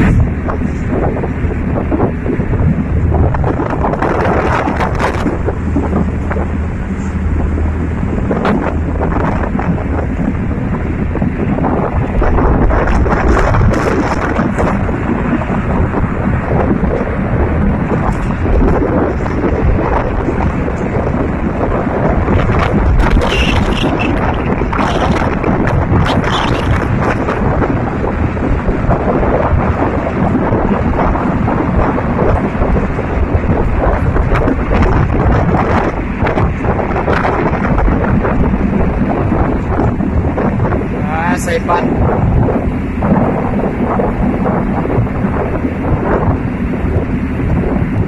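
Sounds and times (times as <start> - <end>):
boat wake rushing water: 0.0 - 48.0
wind buffeting microphone: 0.0 - 48.0.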